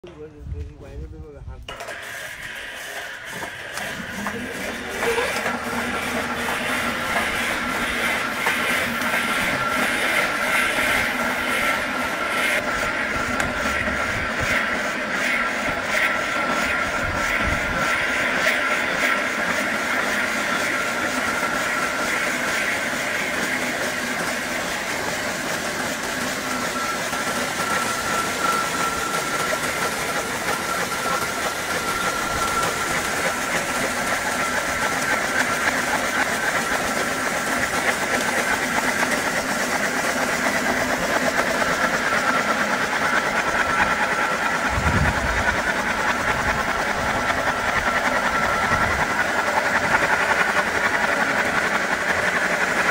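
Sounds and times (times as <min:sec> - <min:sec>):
machine hissing and whirring: 0:01.7 - 0:52.9
high whine: 0:02.6 - 0:23.5, 0:24.1 - 0:39.4, 0:40.4 - 0:51.6.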